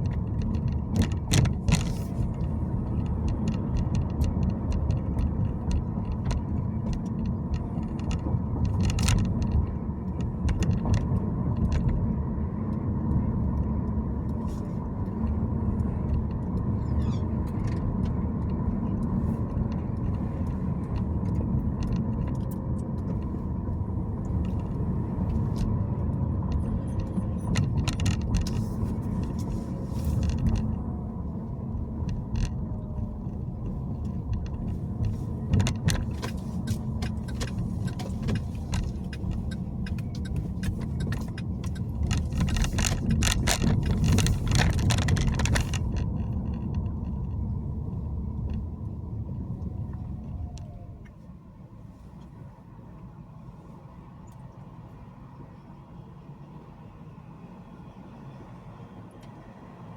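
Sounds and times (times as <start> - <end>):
small clicks and rattles: 0.0 - 48.9
car road and engine rumble: 0.0 - 59.9.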